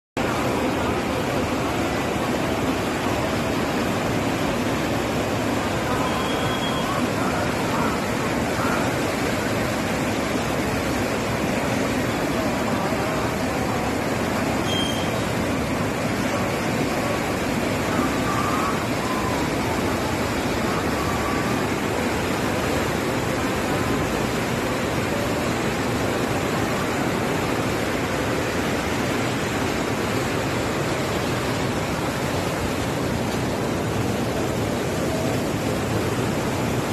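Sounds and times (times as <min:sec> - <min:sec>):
floodwater rushing: 0:00.2 - 0:36.9.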